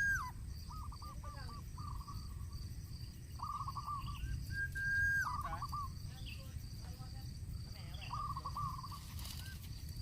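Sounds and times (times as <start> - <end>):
bird warbling calls: 0.0 - 6.5, 7.7 - 10.0
high insect buzz: 0.0 - 10.0.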